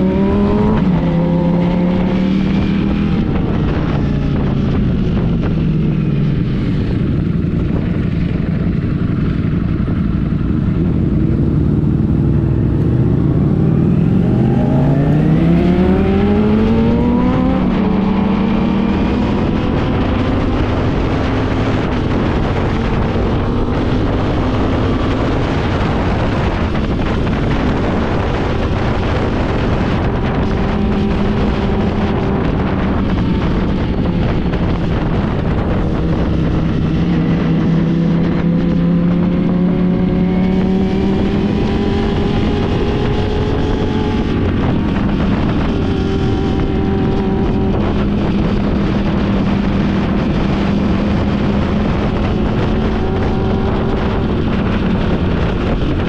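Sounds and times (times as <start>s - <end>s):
constant rushing noise: 0.0s - 56.0s
motorcycle engine accelerating: 0.0s - 56.0s.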